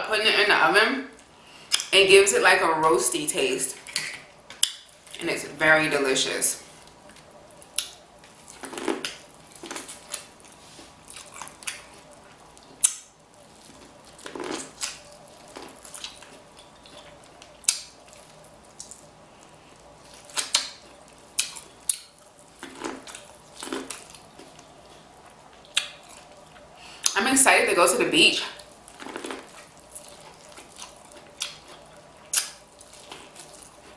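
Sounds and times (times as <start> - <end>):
chewing and wet mouth sounds: 1.2 - 2.0, 3.7 - 5.3, 6.6 - 27.2, 28.4 - 33.9.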